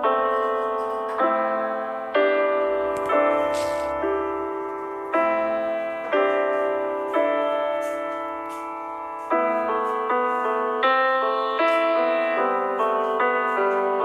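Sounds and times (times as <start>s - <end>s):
slow keyboard chords: 0.0s - 14.0s.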